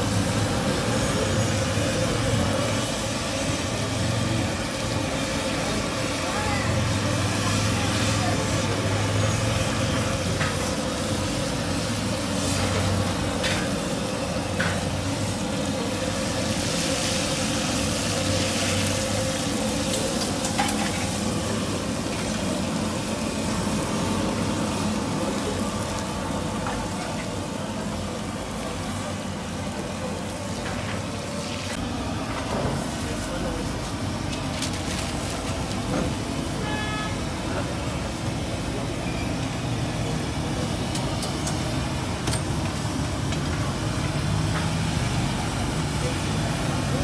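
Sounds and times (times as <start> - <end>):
food deep-frying in hot oil: 0.0 - 47.0.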